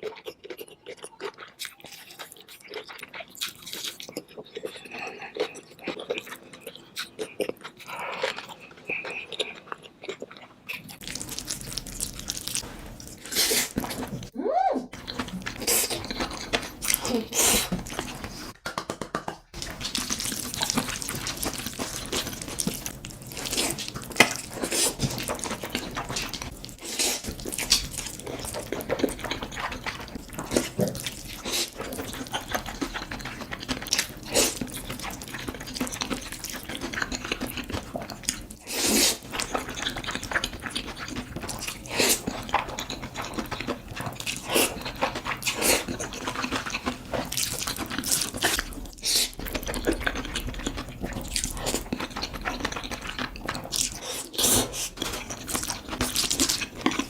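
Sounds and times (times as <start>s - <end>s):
chewing and mouth smacking: 0.0s - 14.3s, 15.0s - 57.0s.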